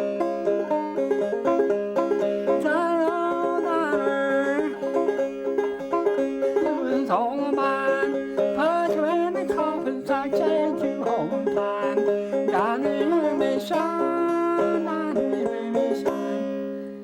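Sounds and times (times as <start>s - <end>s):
banjo playing old-time tune: 0.0s - 17.0s.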